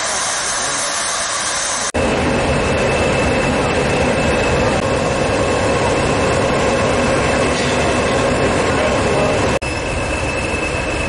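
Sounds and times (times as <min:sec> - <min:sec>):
diesel locomotive passing: 0:00.0 - 0:11.0.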